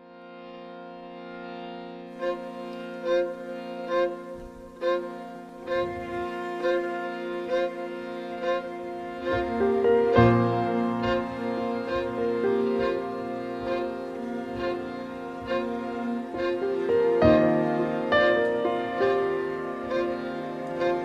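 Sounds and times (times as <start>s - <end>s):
held drone of notes: 0.0s - 21.0s.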